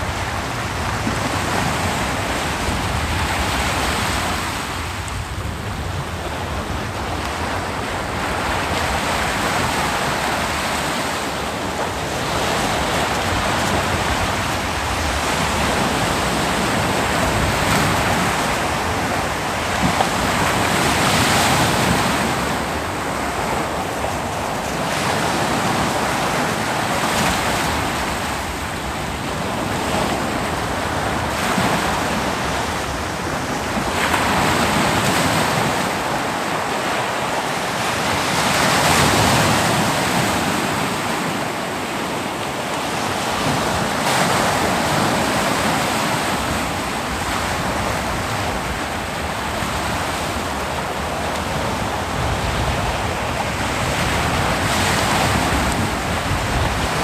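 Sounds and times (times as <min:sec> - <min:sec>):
ocean waves breaking on beach: 0:00.0 - 0:57.0
wind on microphone: 0:00.0 - 0:57.0.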